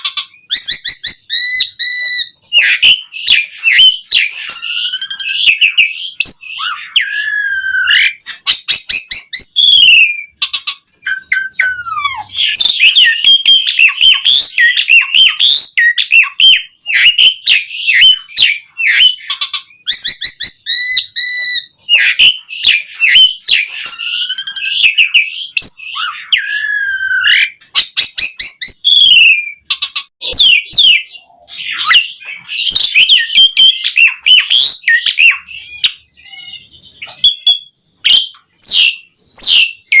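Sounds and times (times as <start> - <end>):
starling singing: 0.0 - 40.0.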